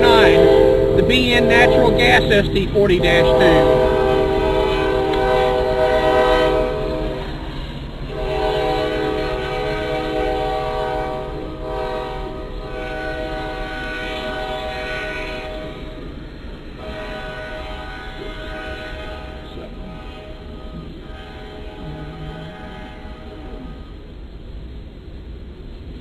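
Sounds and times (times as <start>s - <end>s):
locomotive air horn: 0.0s - 16.0s, 16.8s - 23.9s
freight cars rolling: 0.0s - 26.0s.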